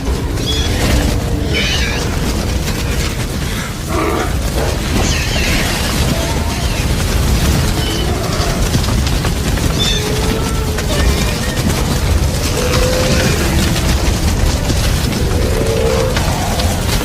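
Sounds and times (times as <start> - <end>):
rumble of pounding footfalls: 0.0 - 17.0.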